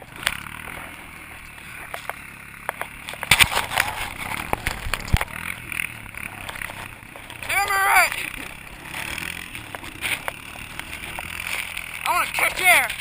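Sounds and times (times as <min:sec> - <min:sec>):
quad bike engine droning: 0:00.0 - 0:13.0
knocks and scrapes: 0:00.2 - 0:07.6, 0:08.2 - 0:13.0.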